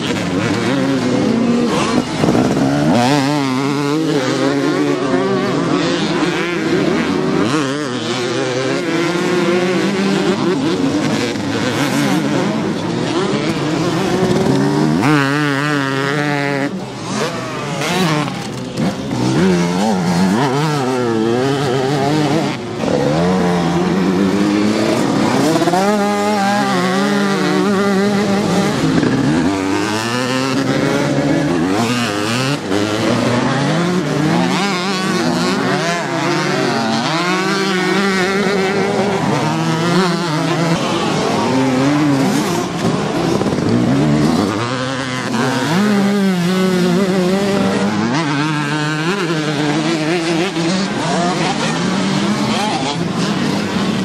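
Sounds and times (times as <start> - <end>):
dirt-bike engines revving: 0.0 - 54.0.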